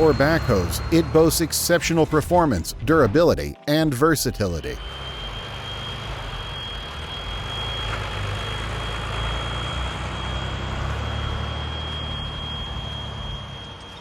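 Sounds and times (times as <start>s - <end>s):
heavy machinery drone: 0.0s - 3.4s, 4.1s - 14.0s
high whine: 0.0s - 14.0s.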